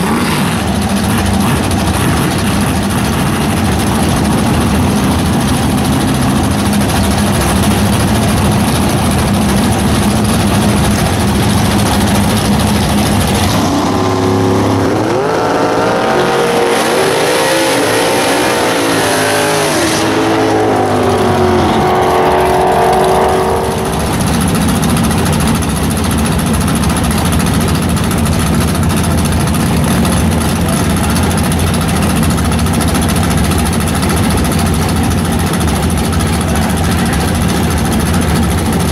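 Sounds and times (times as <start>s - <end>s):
v eight engine revving: 0.0s - 38.9s.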